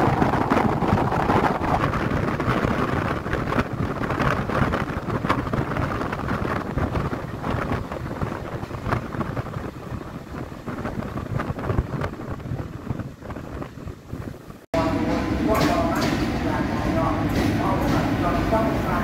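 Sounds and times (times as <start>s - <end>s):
train rumbling on track: 0.0s - 19.0s
wind buffeting microphone: 0.0s - 19.0s.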